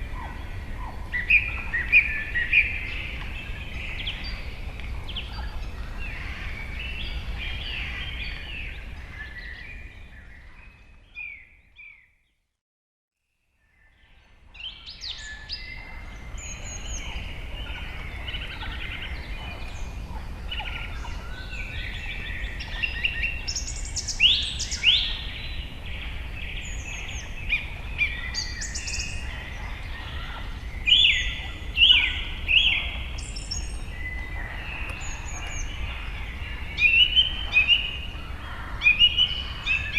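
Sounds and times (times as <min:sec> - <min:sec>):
birds calling and chirping: 0:00.0 - 0:12.2, 0:13.8 - 0:39.9.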